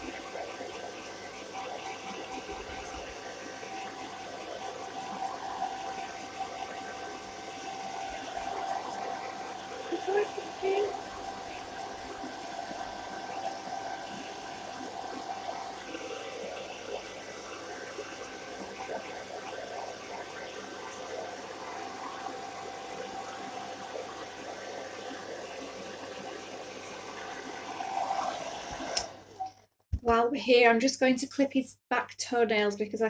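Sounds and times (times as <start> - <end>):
hairdryer blowing: 0.0 - 29.5.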